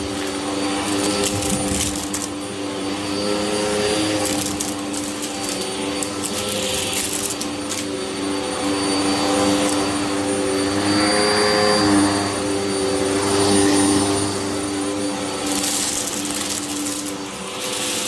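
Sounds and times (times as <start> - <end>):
vacuum cleaner running over rug: 0.0 - 18.0.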